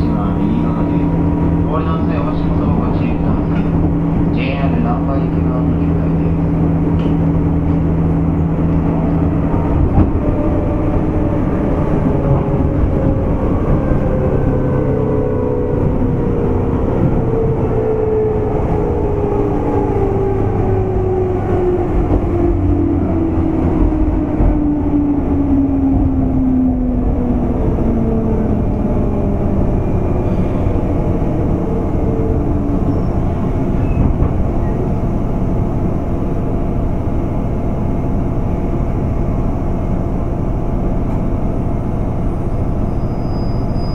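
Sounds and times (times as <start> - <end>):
wheel and rail rumble: 0.0 - 43.9.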